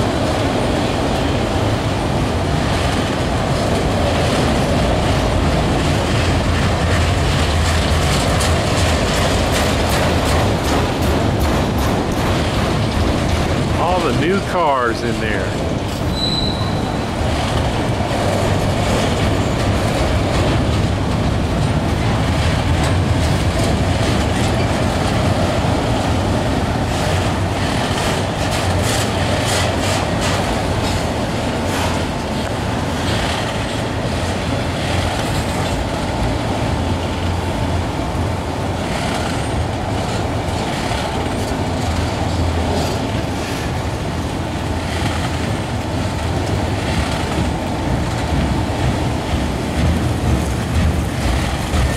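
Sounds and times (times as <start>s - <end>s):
freight train wheels rumbling: 0.0s - 51.9s
wheels clicking over rail joints: 0.1s - 14.4s, 15.5s - 51.9s.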